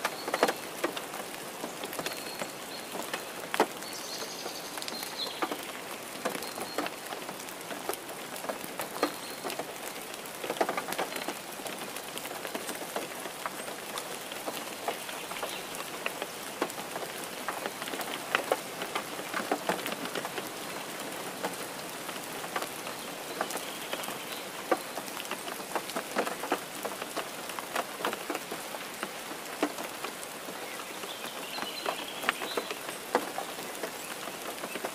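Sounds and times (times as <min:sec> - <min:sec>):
close raindrops tapping: 0:00.0 - 0:34.9
steady rain: 0:00.0 - 0:34.9.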